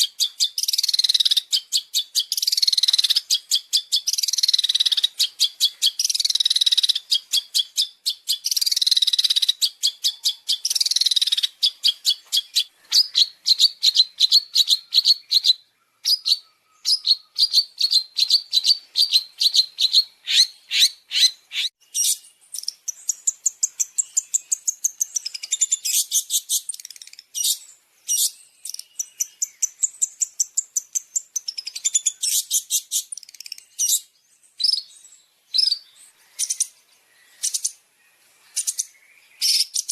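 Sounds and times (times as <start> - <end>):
bird harsh scratchy song: 0.0 - 34.1.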